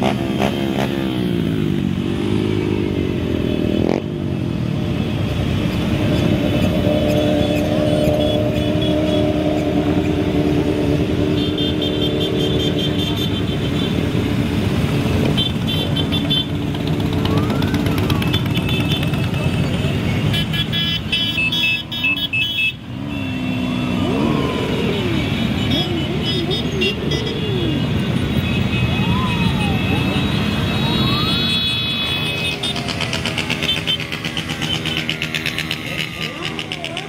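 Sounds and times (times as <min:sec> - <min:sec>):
engines revving: 0:00.0 - 0:37.0
motorcycles riding past: 0:00.0 - 0:37.0.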